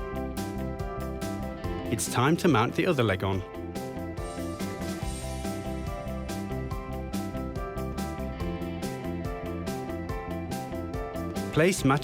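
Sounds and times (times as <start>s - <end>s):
light guitar music with beat: 0.0s - 12.0s.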